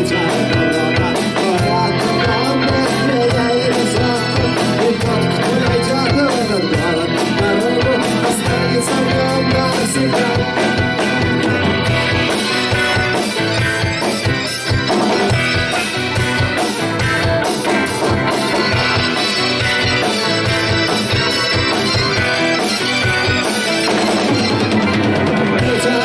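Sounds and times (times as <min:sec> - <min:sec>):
drum kit beat: 0:00.0 - 0:26.0
keyboard chords: 0:00.0 - 0:26.0.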